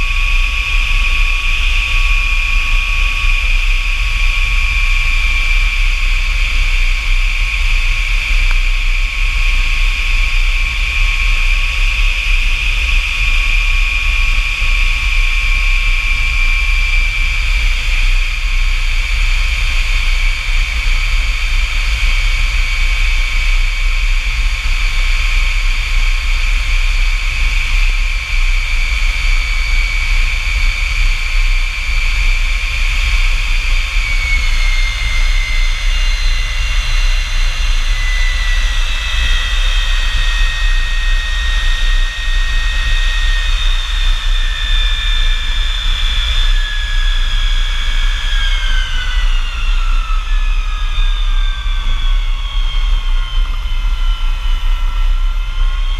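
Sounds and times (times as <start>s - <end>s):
jet engine high whine: 0.0s - 55.9s
jet engine low rumble: 0.0s - 55.9s.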